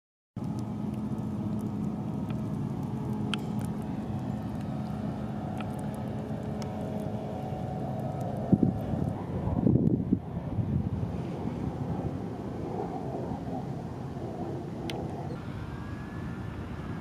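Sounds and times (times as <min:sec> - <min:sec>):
faint steady hum: 0:00.4 - 0:17.0
low outdoor rumble: 0:00.4 - 0:17.0.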